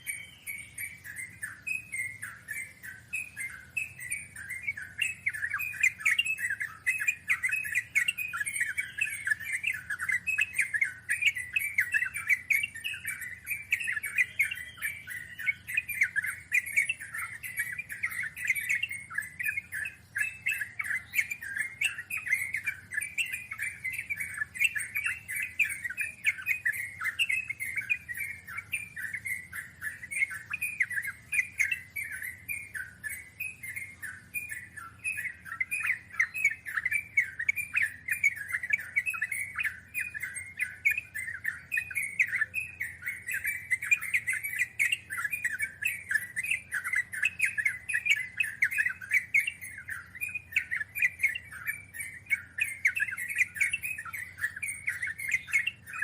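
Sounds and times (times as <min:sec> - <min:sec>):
bird singing fast chattering notes: 0:00.0 - 0:56.0.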